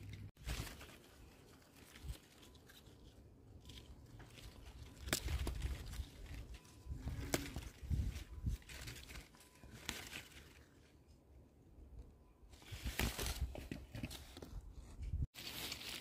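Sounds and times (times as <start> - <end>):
plants rustling: 0.0 - 11.1, 12.6 - 16.0.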